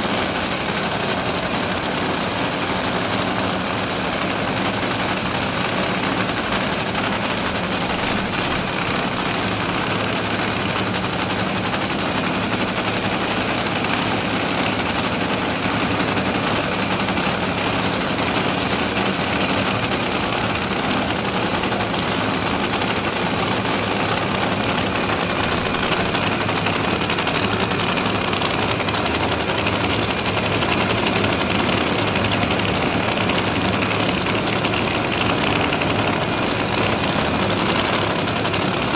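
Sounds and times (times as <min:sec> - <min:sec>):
drag racing engines idling: 0:00.0 - 0:38.9.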